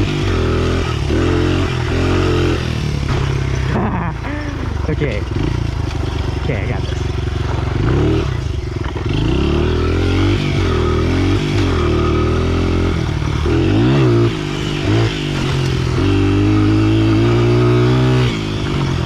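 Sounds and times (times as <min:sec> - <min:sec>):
pit bike engine revving: 0:00.0 - 0:19.0.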